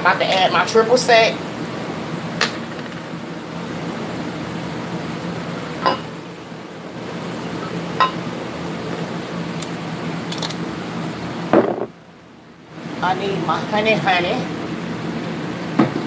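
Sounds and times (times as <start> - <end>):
electric fan blowing: 0.0 - 16.0.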